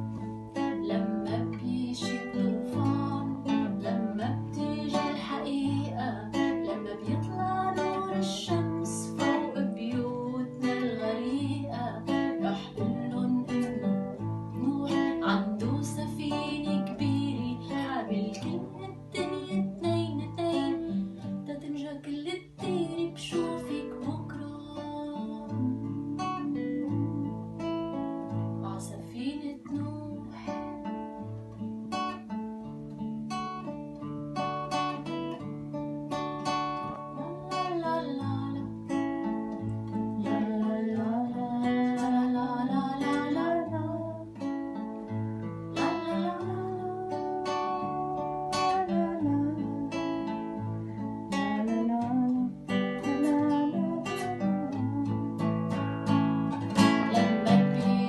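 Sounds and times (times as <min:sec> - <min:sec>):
strummed acoustic guitar: 0:00.0 - 0:58.0
woman singing: 0:00.6 - 0:27.8, 0:28.6 - 0:30.9, 0:36.8 - 0:44.5, 0:45.7 - 0:50.6, 0:51.3 - 0:55.8, 0:56.6 - 0:58.0.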